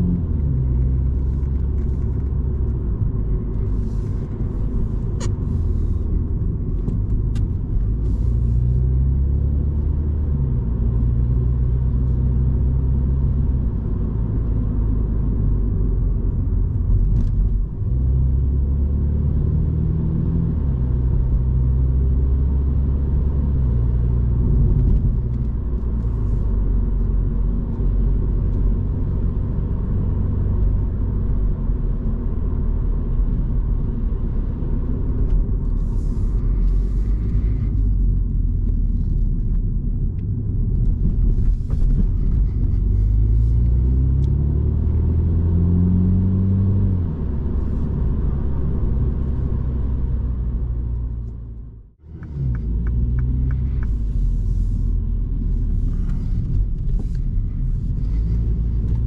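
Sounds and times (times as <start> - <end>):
car engine accelerating through gears: 0.0 - 59.0
road rumble: 0.0 - 59.0.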